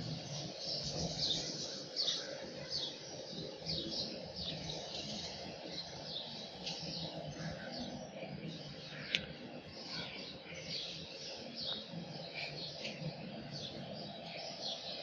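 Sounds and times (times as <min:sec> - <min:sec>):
small birds chirping: 0:00.0 - 0:15.0
steady background hum: 0:00.0 - 0:15.0.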